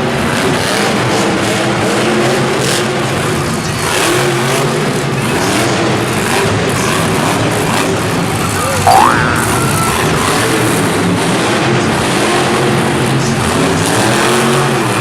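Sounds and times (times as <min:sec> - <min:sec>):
truck engine revving: 0:00.1 - 0:15.0.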